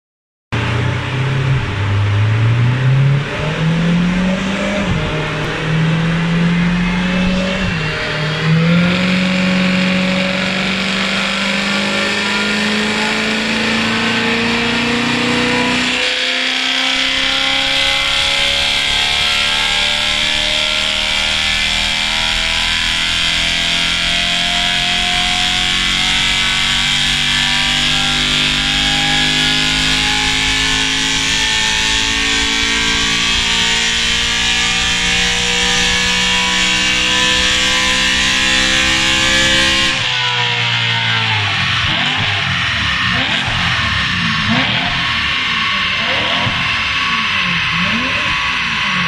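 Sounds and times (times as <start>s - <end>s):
car engine revving on dyno: 0.6s - 49.0s.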